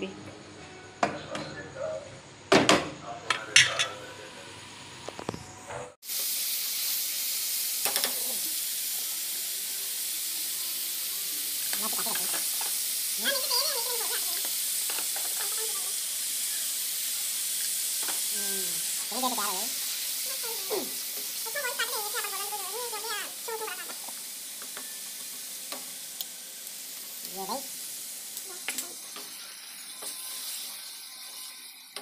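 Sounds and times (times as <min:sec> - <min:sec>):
vegetables sizzling in hot oil: 0:06.0 - 0:32.0.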